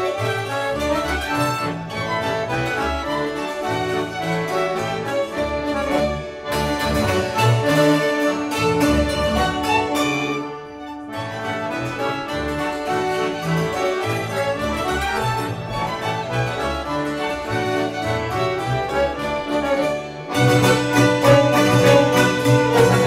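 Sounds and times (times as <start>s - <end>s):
accordion: 0.0s - 23.0s
hammered dulcimers: 0.0s - 23.0s
plucked double bass: 0.0s - 23.0s
violins: 0.0s - 23.0s.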